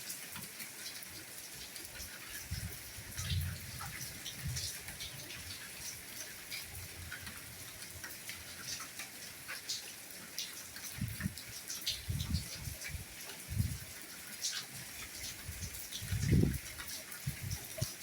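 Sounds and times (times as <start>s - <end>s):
soft steady rainfall: 0.0s - 18.0s
raindrops ticking: 0.1s - 18.0s.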